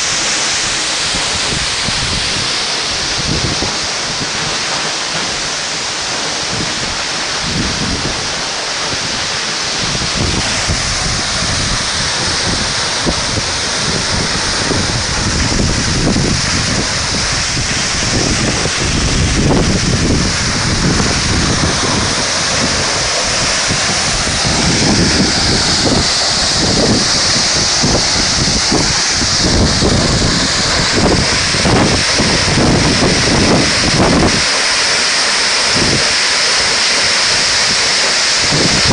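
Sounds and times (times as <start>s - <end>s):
waterfall roaring: 0.0s - 38.9s
wind buffeting microphone: 0.0s - 38.9s.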